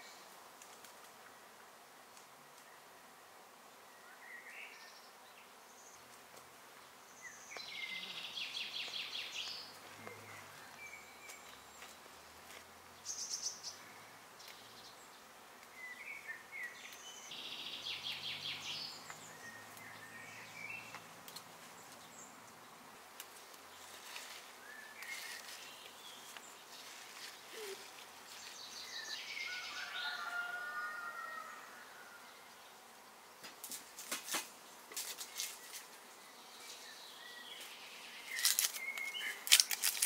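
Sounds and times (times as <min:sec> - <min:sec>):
faint outdoor hiss: 0:00.0 - 0:40.0
songbirds chirping and trilling: 0:02.4 - 0:40.0.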